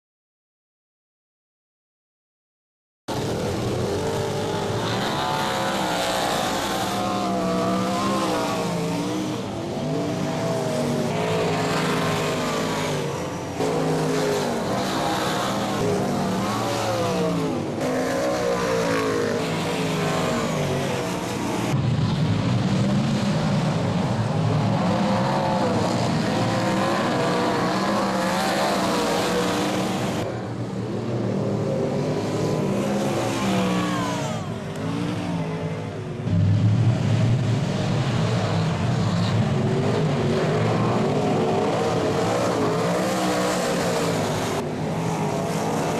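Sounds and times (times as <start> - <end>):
race car engines accelerating: 3.1 - 45.9.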